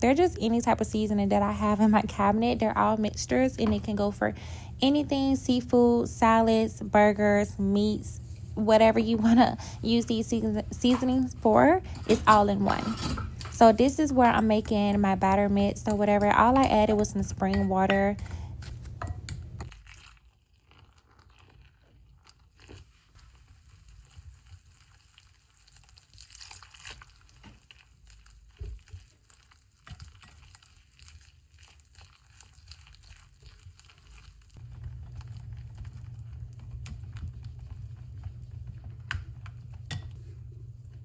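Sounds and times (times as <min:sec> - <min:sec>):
batter being mixed in a bowl: 0:00.0 - 0:41.0.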